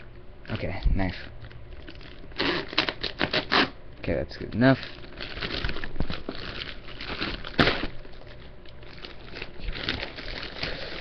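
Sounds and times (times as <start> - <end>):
plastic wrapping crinkling: 0.5 - 3.8, 4.4 - 11.0.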